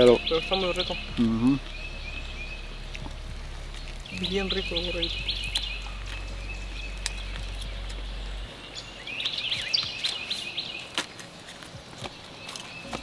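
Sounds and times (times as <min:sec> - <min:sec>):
low steady hum: 0:00.0 - 0:13.0
songbird chirping: 0:00.0 - 0:13.0.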